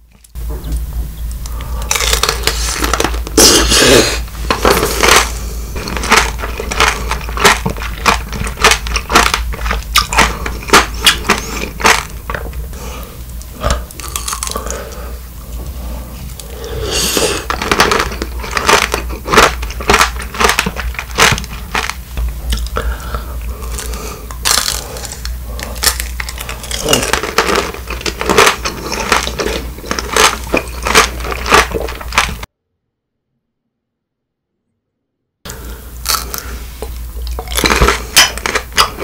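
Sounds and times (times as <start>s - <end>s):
crunching candied fruit: 0.0s - 32.5s, 35.5s - 39.0s.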